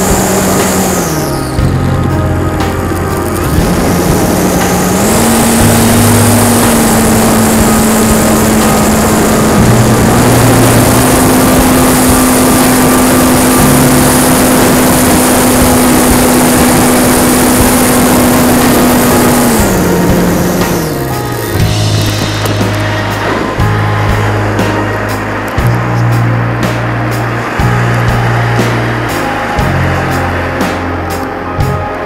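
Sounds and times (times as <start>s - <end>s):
electric motor and propeller whine: 0.0s - 32.0s
wind rush: 0.0s - 32.0s.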